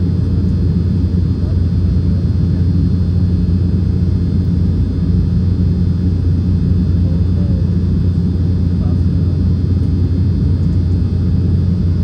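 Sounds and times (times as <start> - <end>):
jet cabin rumble: 0.0 - 12.0.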